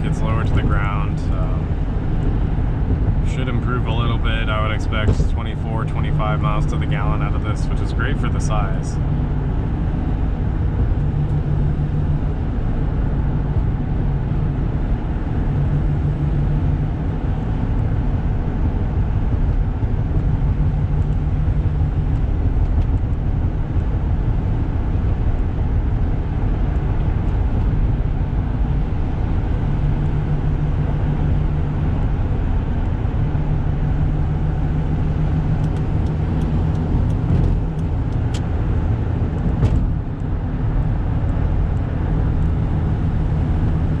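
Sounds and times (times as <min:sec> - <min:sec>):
diesel van engine droning: 0:00.0 - 0:44.0
road and tyre noise: 0:00.0 - 0:44.0.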